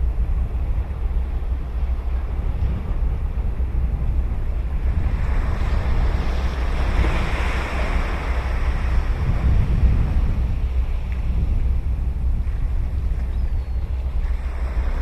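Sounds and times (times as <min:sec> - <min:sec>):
ocean waves breaking on a beach: 0:00.0 - 0:15.0
wind rumble on microphone: 0:00.0 - 0:15.0.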